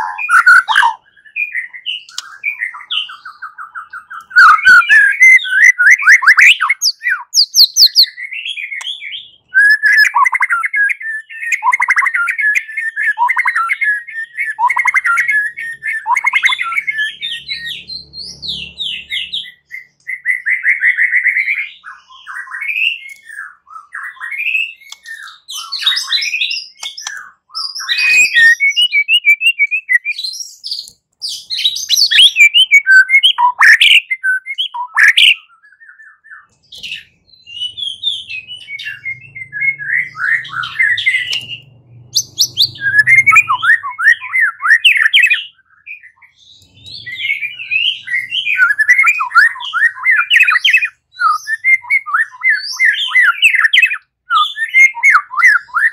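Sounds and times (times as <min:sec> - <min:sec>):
songbird singing rapid trills: 0:00.0 - 0:55.9.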